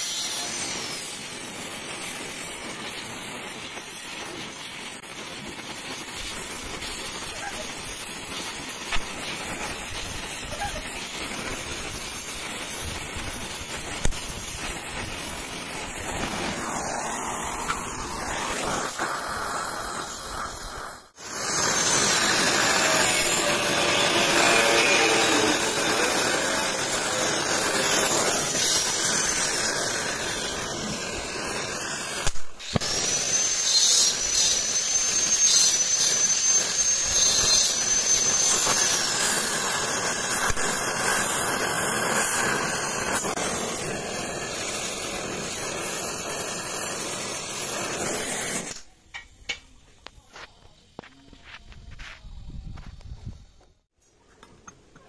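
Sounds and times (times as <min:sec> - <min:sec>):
cutting torch flame hissing: 0:00.0 - 0:53.9.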